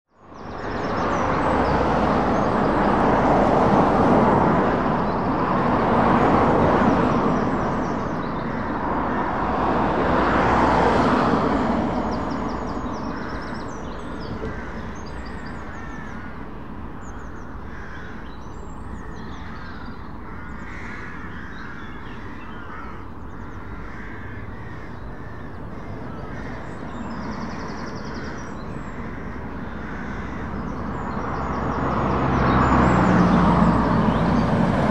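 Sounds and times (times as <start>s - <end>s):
birds calling and singing: 0.1s - 34.9s
cars passing: 0.2s - 34.9s.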